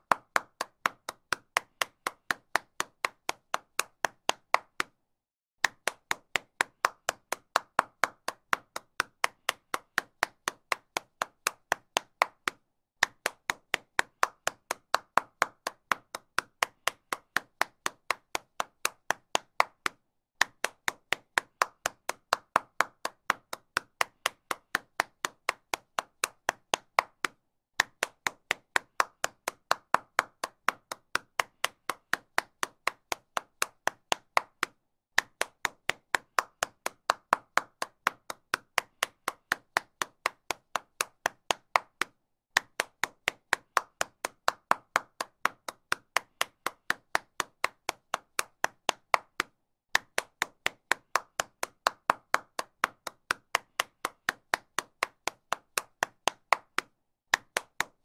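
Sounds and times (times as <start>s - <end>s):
person clapping hands: 0.0s - 5.0s, 5.6s - 58.0s.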